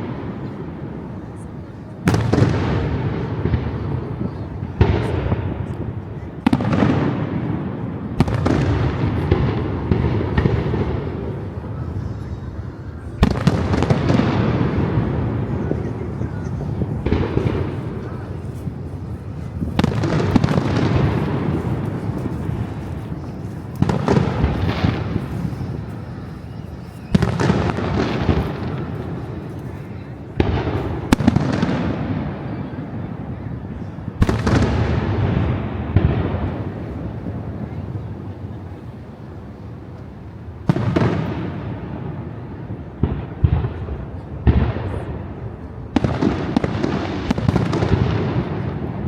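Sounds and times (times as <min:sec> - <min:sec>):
fireworks crackle: 0:00.0 - 0:33.3, 0:40.0 - 0:42.4, 0:43.0 - 0:49.0
fireworks exploding: 0:00.0 - 0:38.7, 0:40.0 - 0:49.0.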